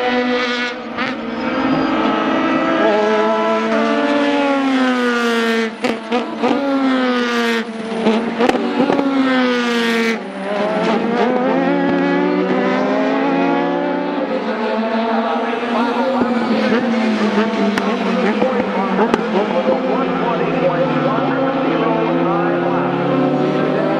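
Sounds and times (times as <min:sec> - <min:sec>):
race car engine: 0:00.0 - 0:23.9.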